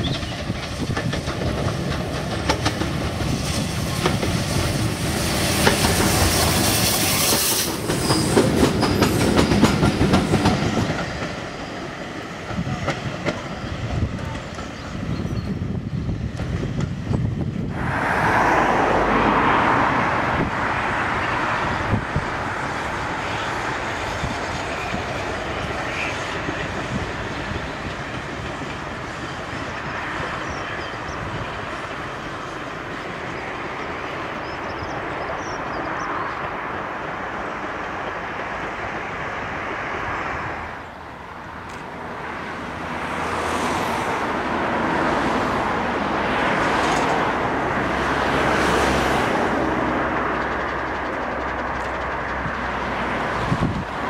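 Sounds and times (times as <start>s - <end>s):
coaches rolling over rails: 0.0s - 54.0s
steam locomotive working: 0.0s - 54.0s.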